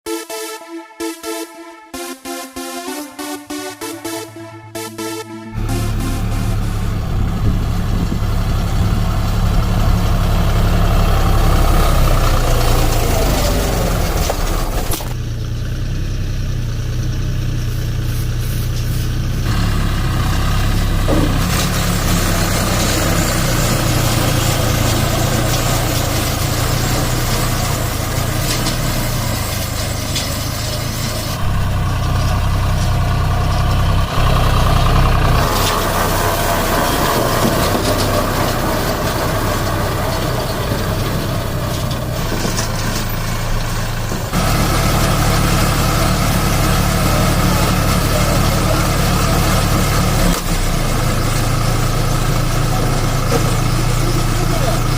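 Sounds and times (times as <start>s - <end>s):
tractor diesel engine running: 2.0s - 54.9s.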